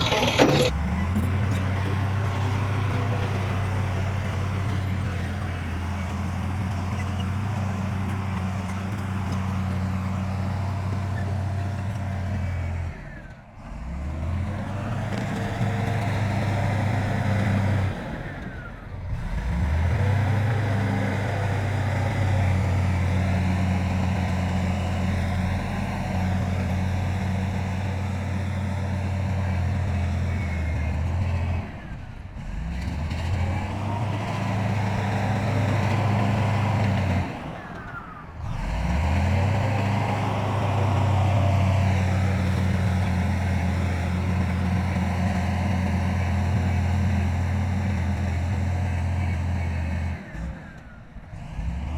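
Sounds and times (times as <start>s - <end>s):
heavy diesel engine droning: 0.0s - 51.9s.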